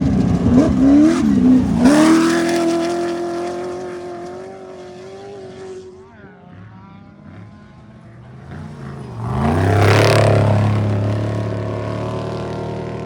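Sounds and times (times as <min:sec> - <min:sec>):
truck engine revving: 0:00.0 - 0:05.8, 0:07.3 - 0:13.0.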